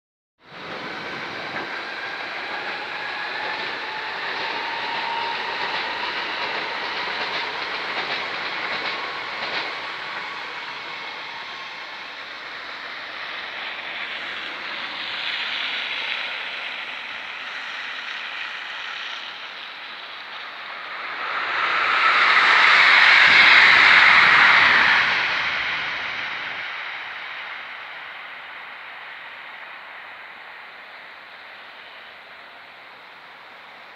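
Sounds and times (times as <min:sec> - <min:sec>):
train passing: 0:00.4 - 0:33.9.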